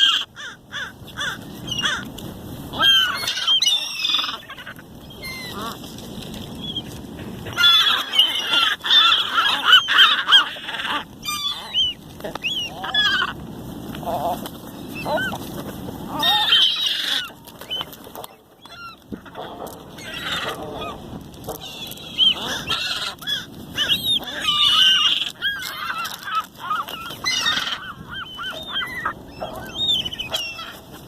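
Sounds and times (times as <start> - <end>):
gulls squabbling: 0.0 - 31.0.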